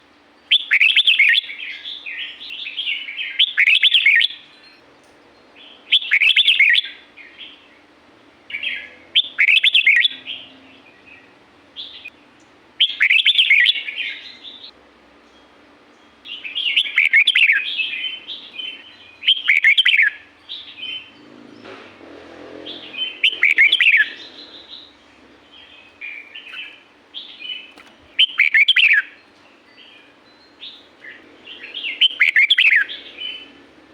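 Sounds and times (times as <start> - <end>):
bird singing warbled phrases: 0.0 - 4.8, 5.4 - 21.8, 22.6 - 33.9.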